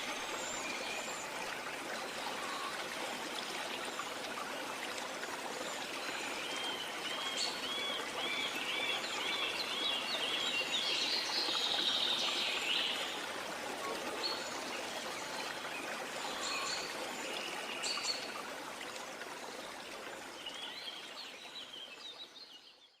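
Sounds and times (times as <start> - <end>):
rushing water: 0.0 - 22.6.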